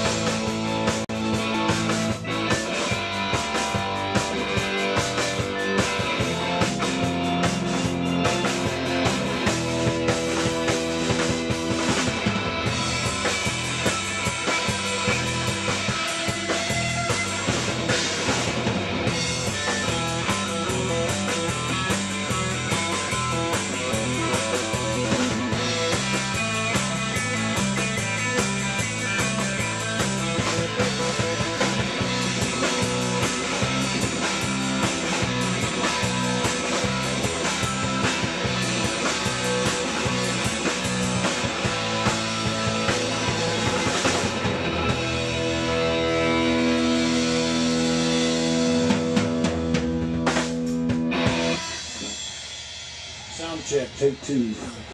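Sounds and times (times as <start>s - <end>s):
electric guitar: 0.0s - 54.9s
live rock band playing: 0.0s - 54.9s
steady drum beat: 0.0s - 54.9s.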